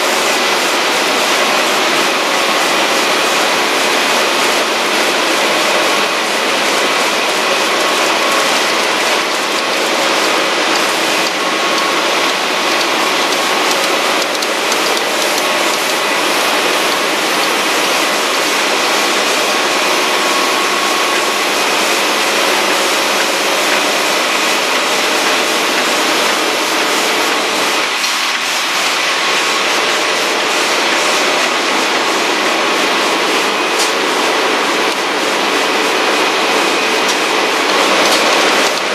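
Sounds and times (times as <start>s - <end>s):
printing press running: 0.0s - 38.9s.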